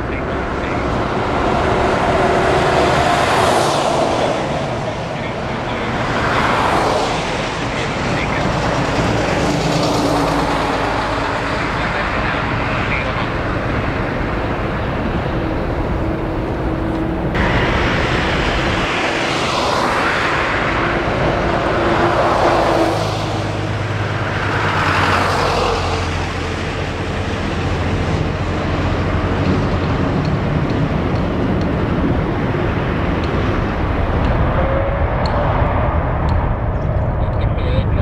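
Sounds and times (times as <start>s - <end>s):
jet engines rushing hum: 0.0s - 38.0s
low steady drone: 7.2s - 38.0s.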